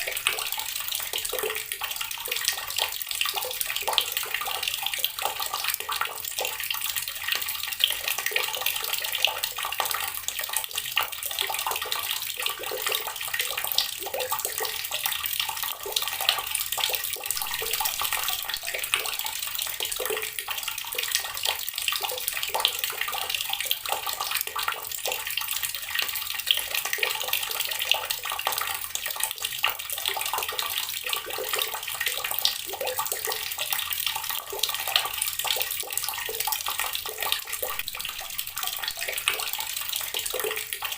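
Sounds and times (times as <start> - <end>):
water tap running: 0.0 - 40.9.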